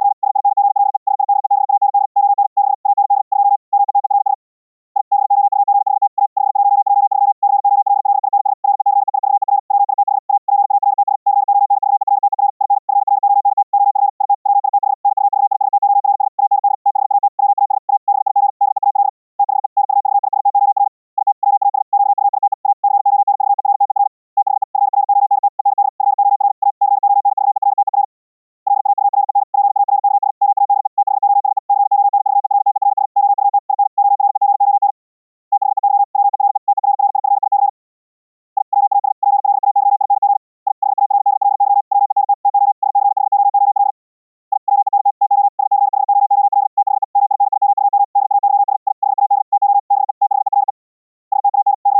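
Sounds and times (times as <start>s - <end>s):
morse code beeps: 0.0s - 4.4s, 5.0s - 28.1s, 28.7s - 37.8s, 38.6s - 51.9s.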